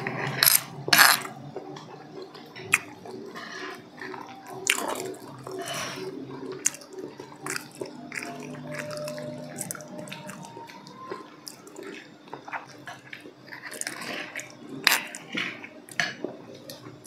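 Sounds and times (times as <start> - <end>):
wet chewing: 0.4 - 17.0.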